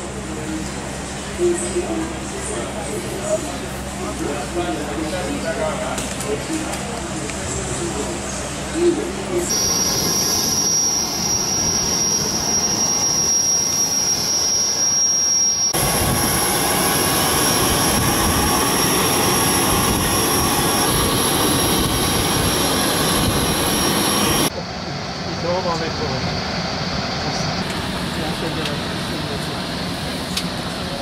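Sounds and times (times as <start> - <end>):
jet turbine whine: 0.0 - 31.0.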